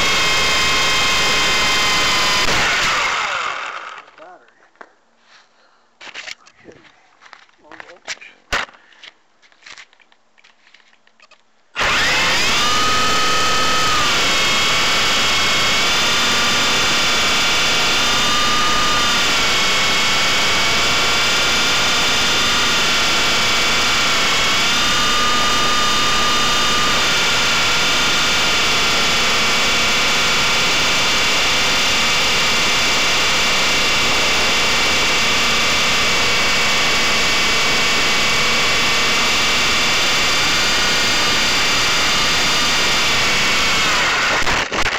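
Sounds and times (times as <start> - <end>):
rc helicopter motor whine: 0.0 - 4.2, 11.8 - 44.9.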